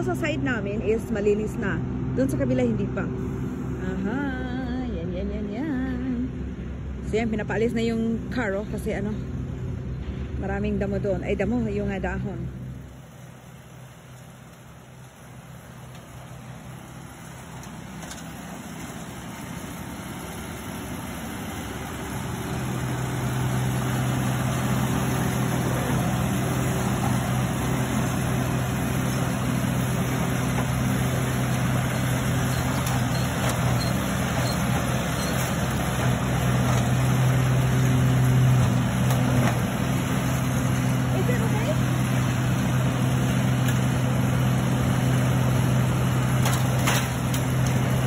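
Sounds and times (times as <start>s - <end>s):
leaf vacuum engine humming: 0.0s - 48.0s.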